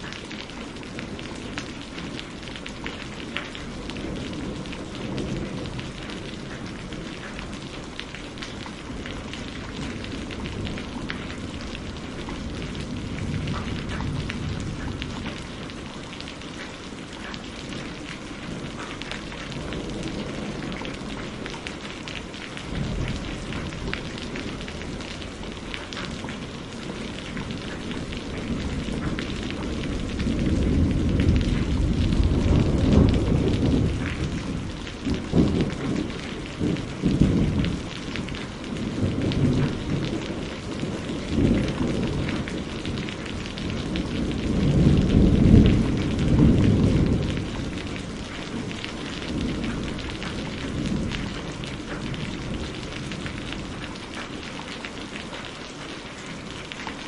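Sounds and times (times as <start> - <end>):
thunder rumbling: 0.0 - 54.7
rain pattering: 0.0 - 57.0.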